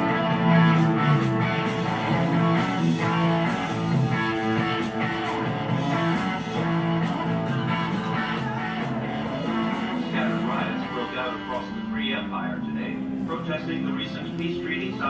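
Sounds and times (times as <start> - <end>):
guitar soundtrack music: 0.0 - 15.0.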